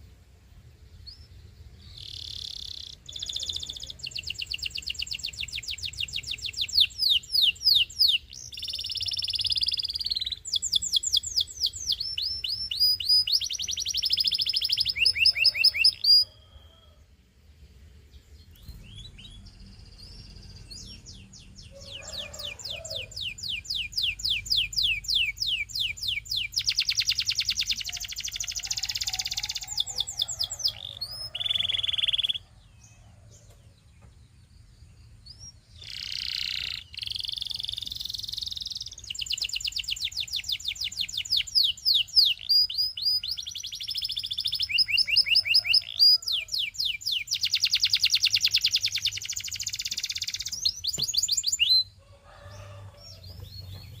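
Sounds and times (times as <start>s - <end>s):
canary singing trills: 0.8s - 17.0s, 17.9s - 54.0s.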